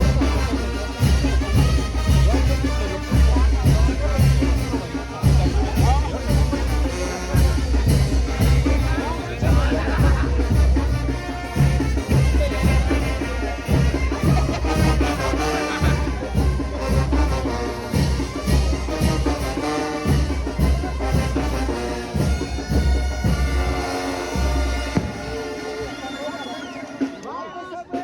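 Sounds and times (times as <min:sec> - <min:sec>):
bass drum beat: 0:00.0 - 0:26.1
trumpet and trombone notes: 0:00.0 - 0:28.0.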